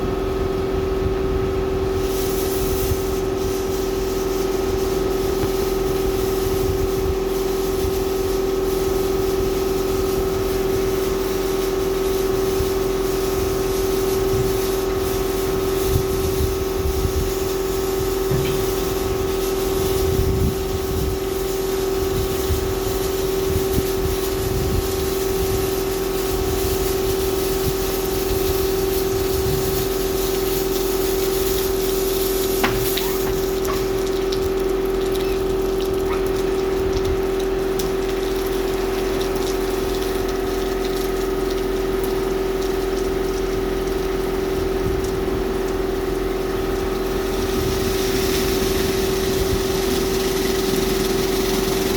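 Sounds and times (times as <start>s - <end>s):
pump hum: 0.0s - 51.9s
water spraying on car: 1.2s - 51.9s.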